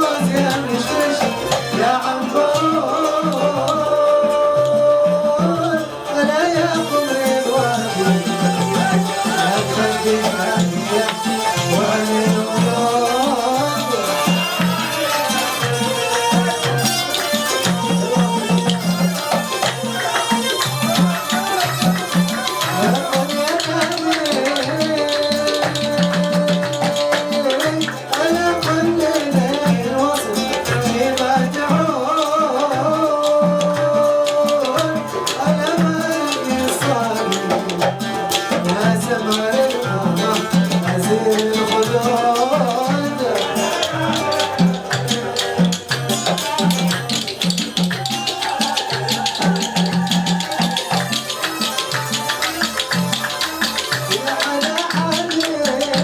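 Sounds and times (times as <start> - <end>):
drum and percussion beat: 0.0 - 56.0
melody instrument sliding notes: 5.8 - 31.7, 34.7 - 55.9.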